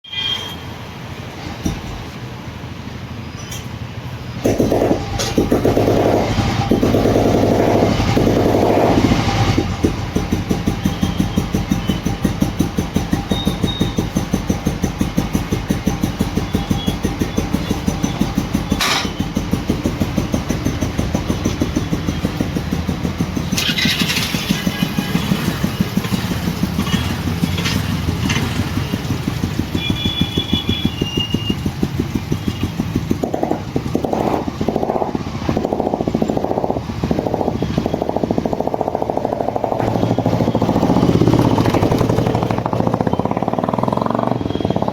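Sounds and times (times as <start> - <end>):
motorcycle engine thumping: 1.6 - 2.1, 4.4 - 44.9.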